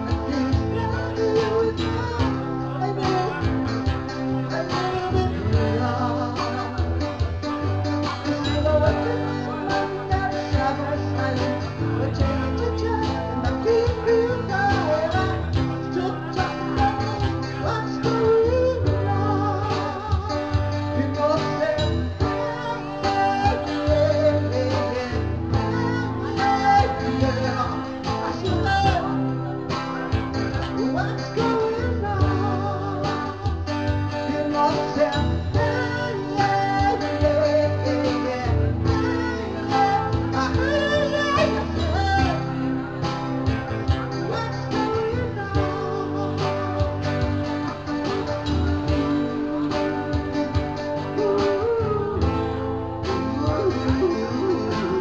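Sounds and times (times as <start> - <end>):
guitar: 0.0 - 55.0.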